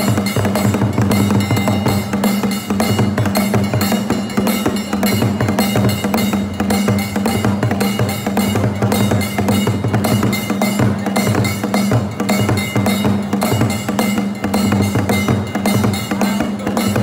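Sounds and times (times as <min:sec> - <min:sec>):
drum percussion music: 0:00.0 - 0:17.0.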